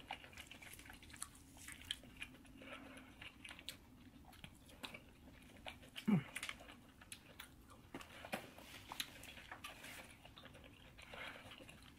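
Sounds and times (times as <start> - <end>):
chewing fried chicken: 0.0 - 11.9.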